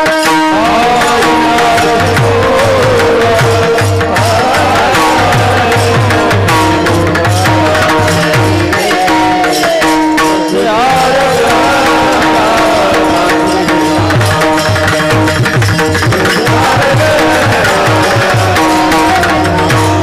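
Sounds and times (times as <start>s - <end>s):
hand drum beating: 0.0s - 20.0s
harmonium drone: 0.0s - 20.0s
person singing: 0.0s - 20.0s
small cymbals striking: 0.0s - 20.0s.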